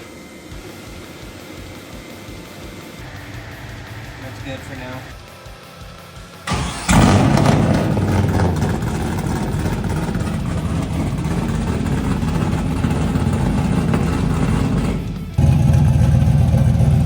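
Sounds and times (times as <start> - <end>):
engine running with low note: 0.0 - 17.0.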